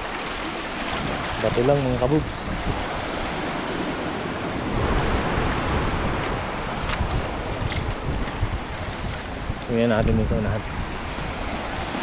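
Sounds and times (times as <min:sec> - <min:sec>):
sea waves washing on shore: 0:00.0 - 0:12.0
wind gusting on microphone: 0:00.8 - 0:12.0.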